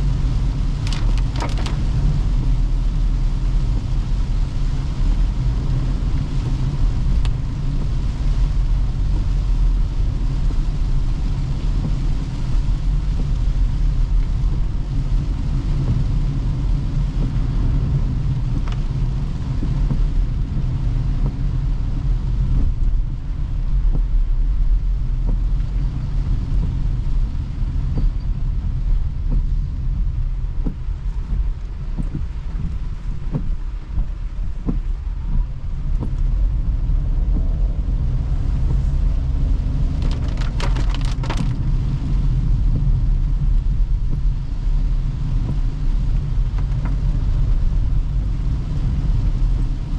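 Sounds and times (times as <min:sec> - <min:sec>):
road and tyre noise: 0:00.0 - 0:49.9.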